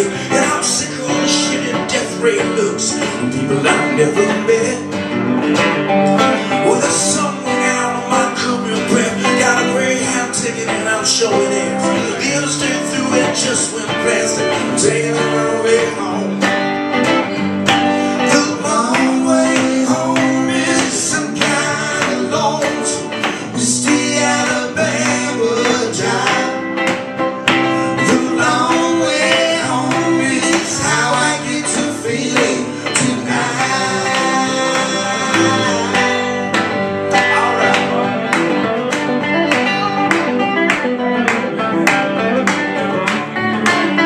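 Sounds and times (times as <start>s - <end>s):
man singing: 0.0s - 5.2s, 6.1s - 40.6s
guitars: 0.0s - 44.0s
live blues band: 0.0s - 44.0s.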